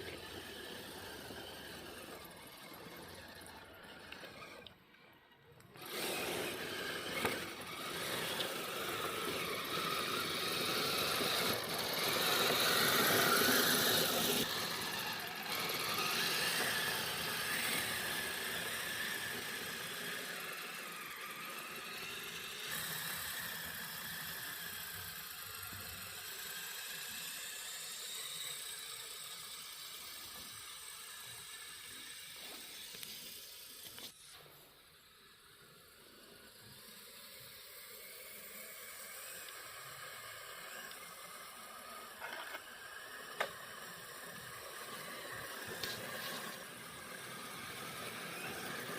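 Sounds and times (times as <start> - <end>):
small electric motor whine: 0.0 - 48.9.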